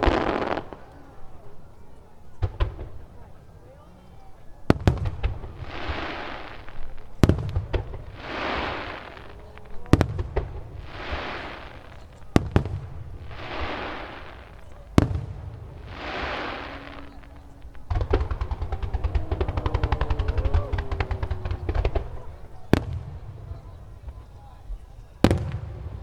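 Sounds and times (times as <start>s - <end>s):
crackling hiss: 0.0s - 26.0s
firework shells bursting: 4.7s - 26.0s.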